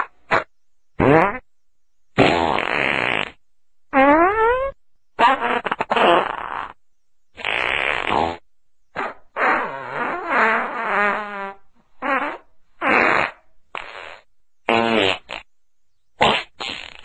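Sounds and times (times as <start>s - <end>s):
farting: 0.0s - 1.4s, 2.2s - 6.8s, 7.4s - 15.5s, 16.2s - 17.0s.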